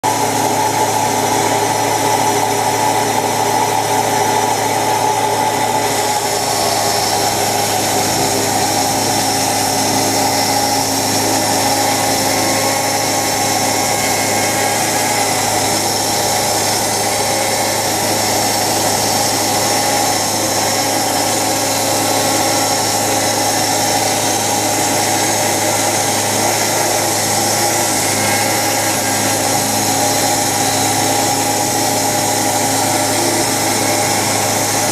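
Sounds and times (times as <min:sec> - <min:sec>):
saw cutting hiss: 0:00.0 - 0:34.9
sawmill engine running: 0:00.0 - 0:34.9.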